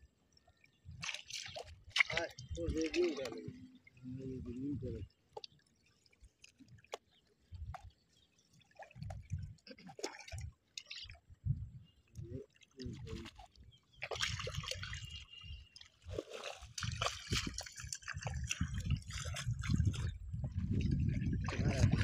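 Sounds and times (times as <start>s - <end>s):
splashing in shallow water: 0.5s - 22.0s.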